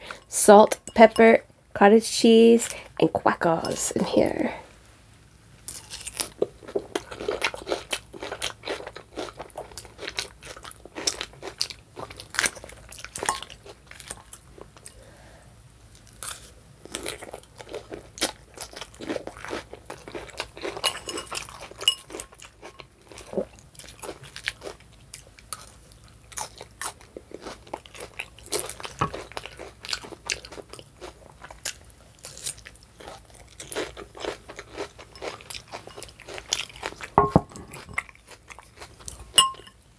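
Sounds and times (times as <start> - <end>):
crunchy salad chewing: 5.7 - 15.0, 15.9 - 39.8.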